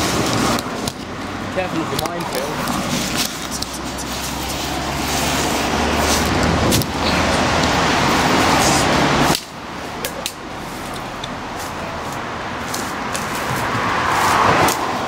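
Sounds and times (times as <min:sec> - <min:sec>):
traffic engine hum: 0:00.0 - 0:15.0
tyre and road noise: 0:00.0 - 0:15.0.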